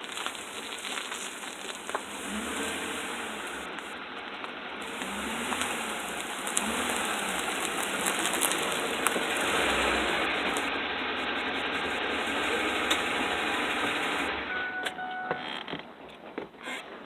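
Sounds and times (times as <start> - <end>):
truck engine rushing noise: 0.0 - 14.7.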